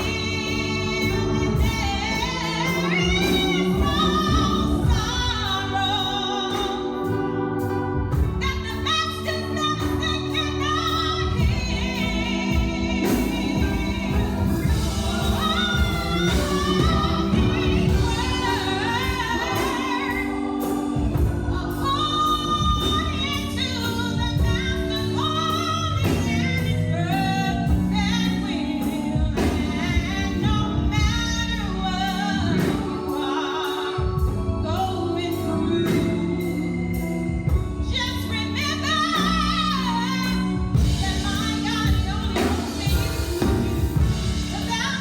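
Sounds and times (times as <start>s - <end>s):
gospel singing: 0.0s - 45.0s
instrumental accompaniment with beat: 0.0s - 45.0s.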